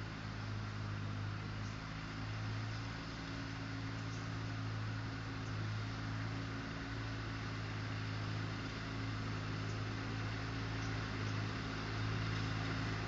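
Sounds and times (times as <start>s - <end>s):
mower engine running: 0.0s - 13.0s.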